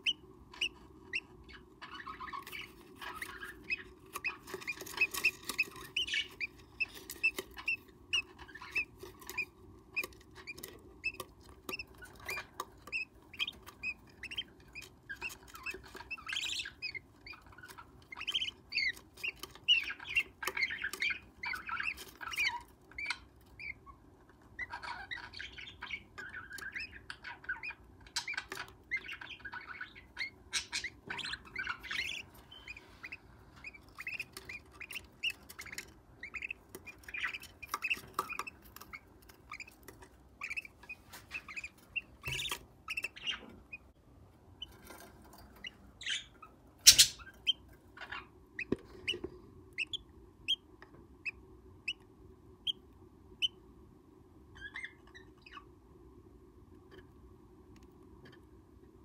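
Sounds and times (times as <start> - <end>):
parrot chicks chirping: 0.0 - 56.2.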